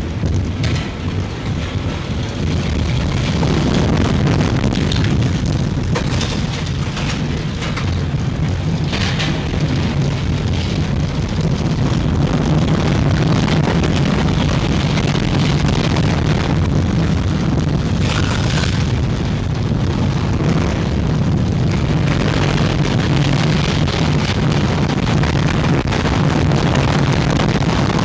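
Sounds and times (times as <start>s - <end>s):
roller coaster wheels rumbling on rails: 0.0s - 28.0s.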